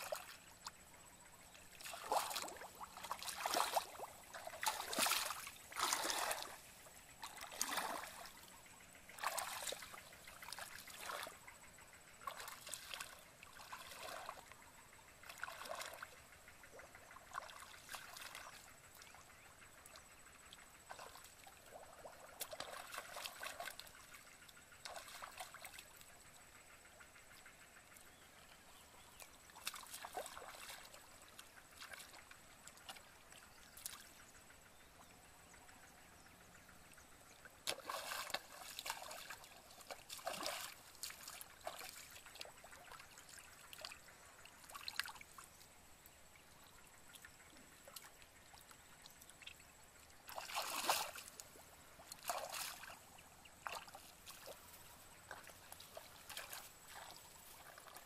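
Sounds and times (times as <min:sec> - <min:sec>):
muddy water splashing and sloshing: 0:00.0 - 0:58.0.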